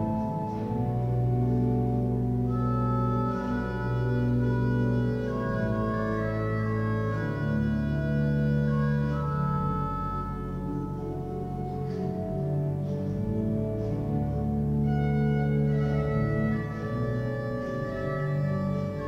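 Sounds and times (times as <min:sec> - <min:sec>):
church pipe organ chords: 0:00.0 - 0:19.0.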